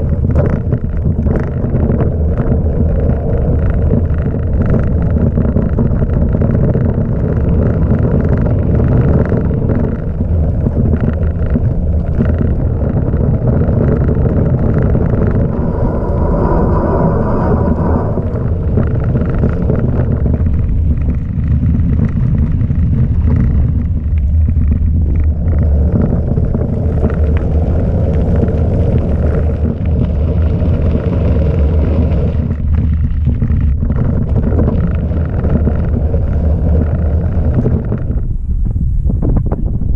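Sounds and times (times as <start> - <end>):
bike tyres rolling on gravel: 0.0 - 39.9
wind buffeting microphone: 0.0 - 39.9.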